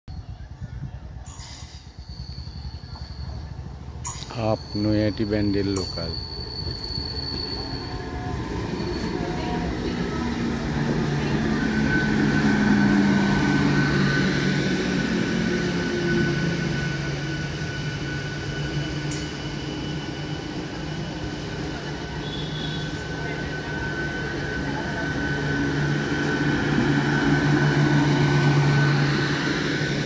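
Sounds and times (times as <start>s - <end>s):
train wheels rumbling on rails: 0.5s - 30.0s
train whining tones: 1.3s - 30.0s.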